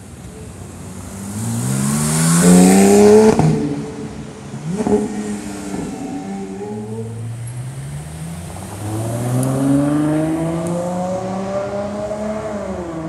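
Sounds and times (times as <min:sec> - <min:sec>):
car engine accelerating hard: 0:01.2 - 0:13.0.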